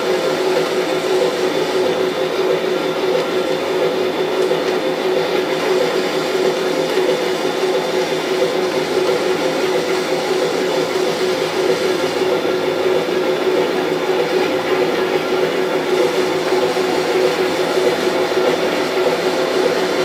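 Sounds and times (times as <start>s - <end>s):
wheels rolling on track: 0.1s - 20.0s.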